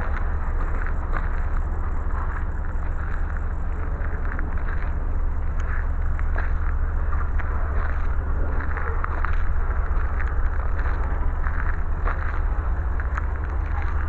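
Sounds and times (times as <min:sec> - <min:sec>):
freight cars rumbling: 0:00.0 - 0:14.0
wheels clicking and squeaking: 0:00.0 - 0:14.0.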